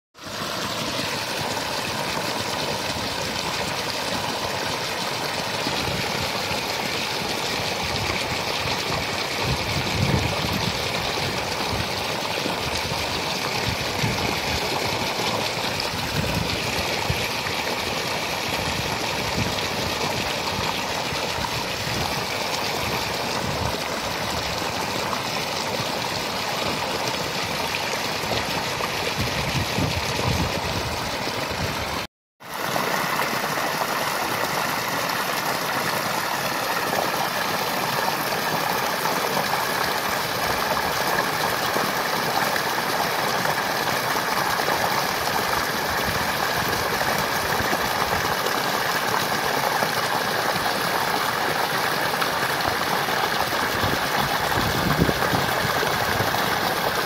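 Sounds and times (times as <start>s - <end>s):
water gushing onto ground: 0.2s - 57.0s.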